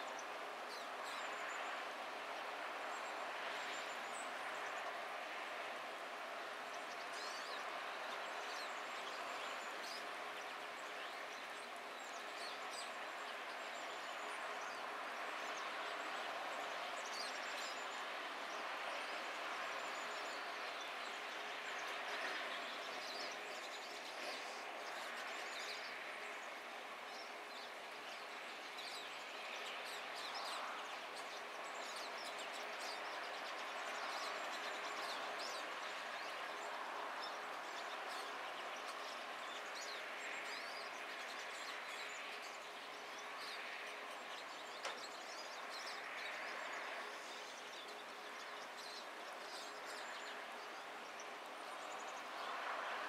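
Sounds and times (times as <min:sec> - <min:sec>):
distant road traffic: 0:00.1 - 0:53.0.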